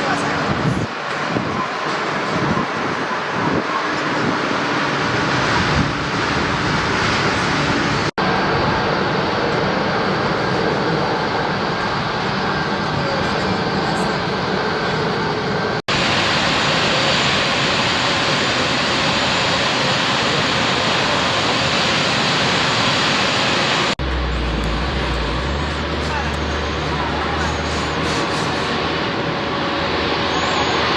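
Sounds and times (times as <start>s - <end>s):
jet engines rushing: 0.0s - 30.9s.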